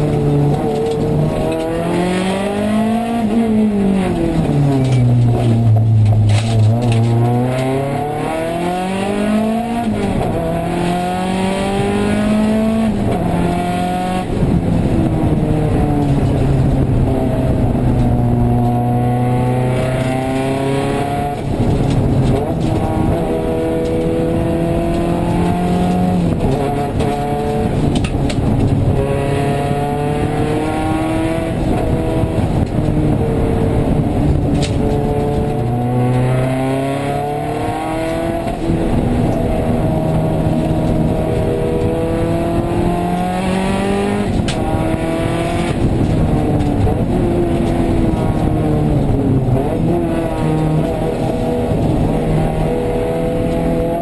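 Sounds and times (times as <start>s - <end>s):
engine accelerating hard: 0.0s - 54.0s.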